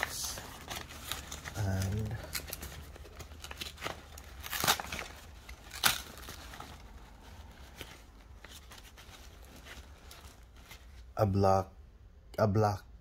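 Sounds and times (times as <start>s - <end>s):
paper packaging crinkling: 0.0s - 11.2s.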